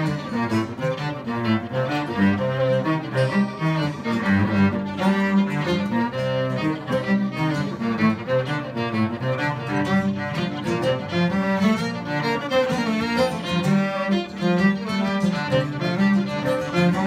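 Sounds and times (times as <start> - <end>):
bowed cello and violin: 0.0 - 17.0
strummed acoustic guitar: 0.0 - 17.0.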